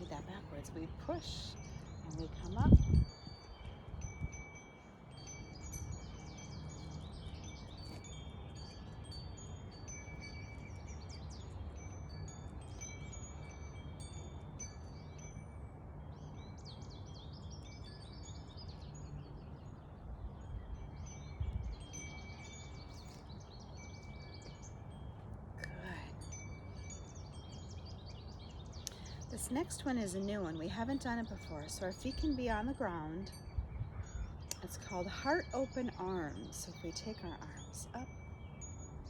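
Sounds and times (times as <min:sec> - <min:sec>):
birds chirping and trilling: 0:05.1 - 0:25.2, 0:25.8 - 0:39.0.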